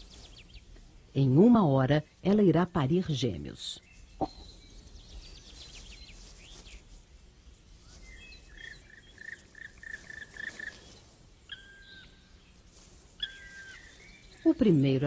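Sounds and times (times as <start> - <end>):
small birds singing: 0.0 - 1.4, 2.0 - 15.0
faint outdoor background: 0.0 - 15.0.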